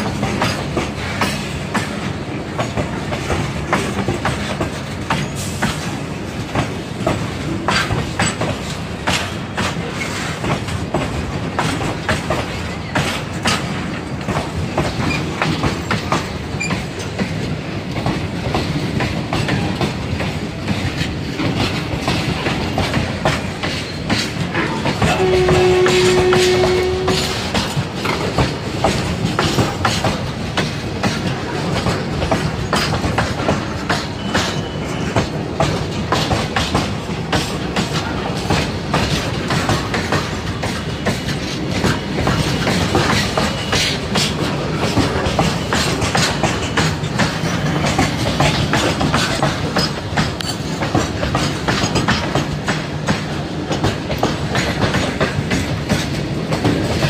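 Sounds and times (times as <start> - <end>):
clickety-clack over rail joints: 0.0 - 57.0
steel wheels rumbling on rail: 0.0 - 57.0.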